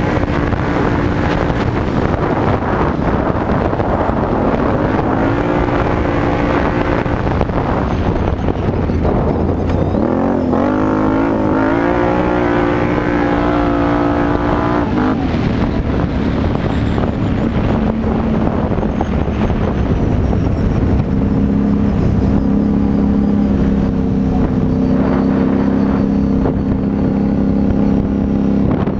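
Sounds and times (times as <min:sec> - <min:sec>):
quad engine revving: 0:00.0 - 0:28.9.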